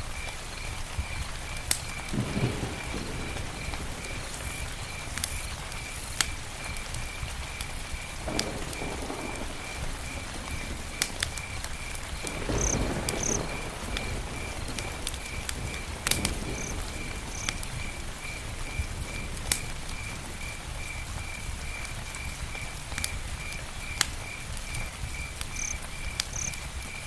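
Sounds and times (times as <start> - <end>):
campfire crackling: 0.0 - 27.0
cricket chirping: 0.1 - 27.0
sharp fire pops: 0.2 - 27.0.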